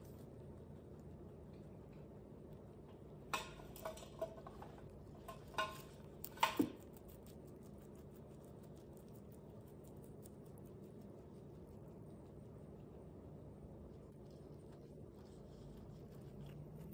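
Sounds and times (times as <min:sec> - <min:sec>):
faint hum: 0:00.0 - 0:16.9
rabbit munching greens: 0:00.0 - 0:16.9.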